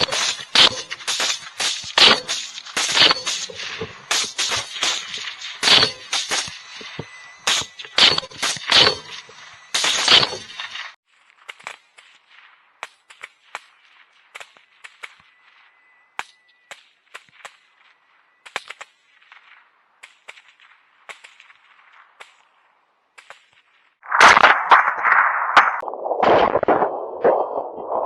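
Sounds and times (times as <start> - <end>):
sharp cracks and clicks: 0.0 - 22.6, 23.2 - 26.9.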